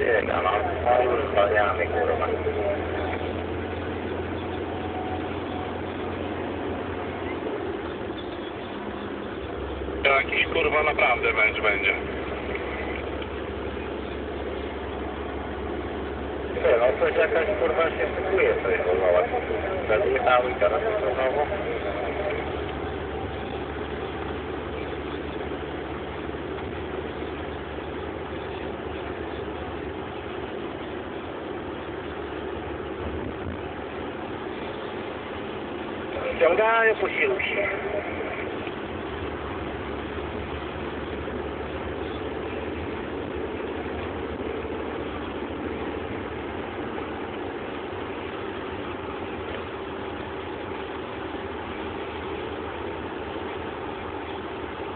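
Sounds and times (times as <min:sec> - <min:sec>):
even hum: 0:00.0 - 0:54.9
road noise inside cab: 0:00.0 - 0:54.9
truck engine: 0:00.0 - 0:54.9.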